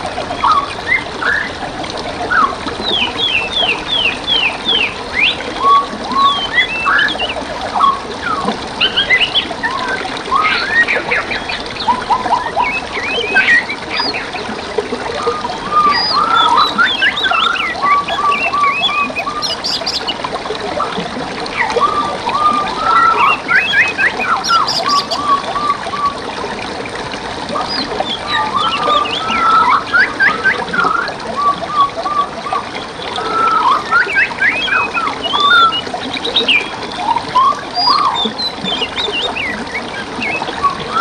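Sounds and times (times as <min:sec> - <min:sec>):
trickling water: 0:00.0 - 0:41.0
songbirds singing: 0:02.3 - 0:20.2, 0:21.5 - 0:26.2, 0:27.5 - 0:41.0.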